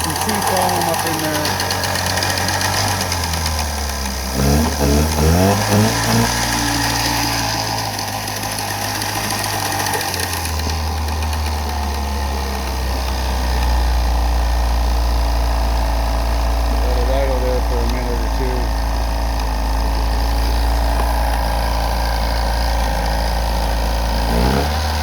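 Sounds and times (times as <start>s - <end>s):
outboard motor revving and idling: 0.0s - 25.0s.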